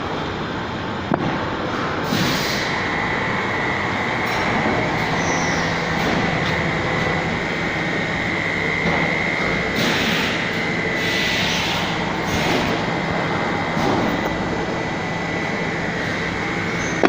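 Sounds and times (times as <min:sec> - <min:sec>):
welding machine hum and whine: 0:00.0 - 0:17.0.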